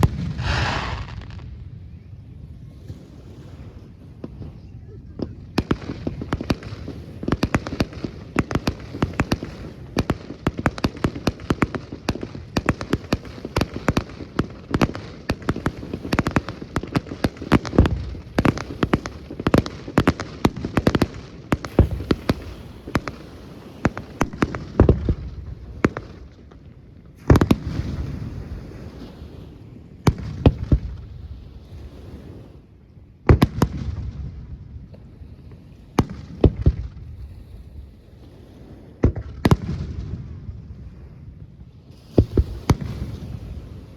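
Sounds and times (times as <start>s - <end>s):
fireworks booms: 0.0s - 32.3s, 33.2s - 43.9s
fireworks bangs and crackling: 0.0s - 32.6s, 33.2s - 43.9s.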